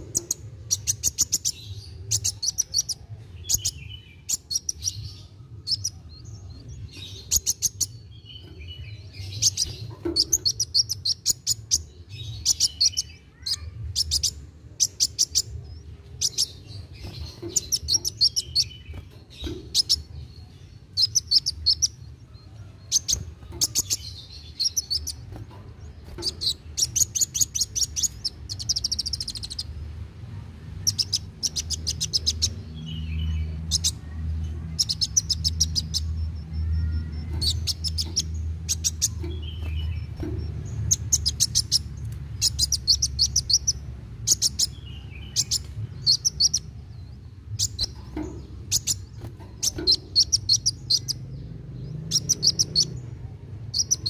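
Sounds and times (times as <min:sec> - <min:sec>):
sunbird singing ticking chatter: 0:00.0 - 0:54.0.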